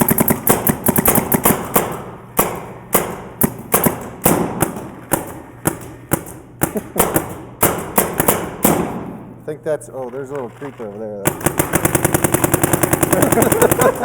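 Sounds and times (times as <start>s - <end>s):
paintball markers firing: 0.0s - 14.0s.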